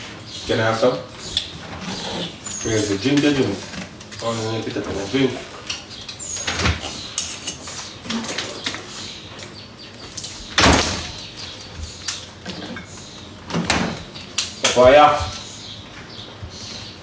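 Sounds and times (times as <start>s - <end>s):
dishes and utensils clattering: 1.2s - 9.5s, 10.1s - 15.5s.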